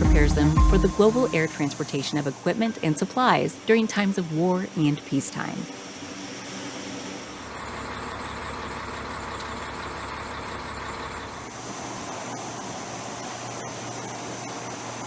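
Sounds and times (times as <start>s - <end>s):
machine running noise: 0.0s - 15.0s.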